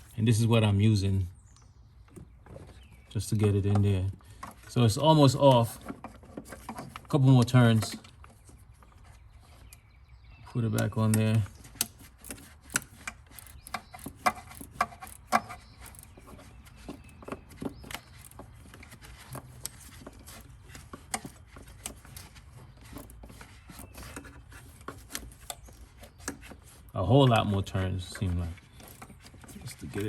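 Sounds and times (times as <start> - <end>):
hand tool turning a screw: 3.4 - 9.8, 10.4 - 30.0.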